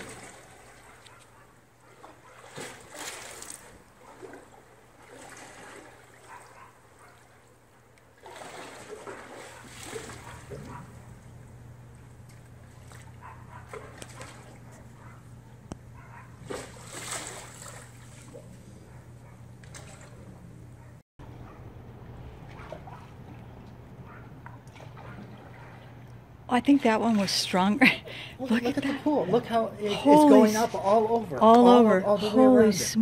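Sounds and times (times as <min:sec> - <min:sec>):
pool water sloshing and splashing: 0:00.0 - 0:32.7
steady low hum: 0:00.0 - 0:33.0.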